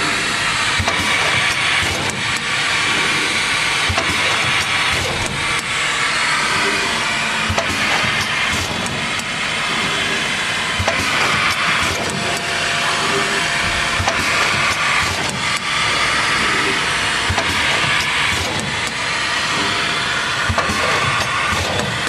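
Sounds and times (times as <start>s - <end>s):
packaging machine hiss and clatter: 0.0s - 22.0s
sharp machine clicks: 0.0s - 22.0s.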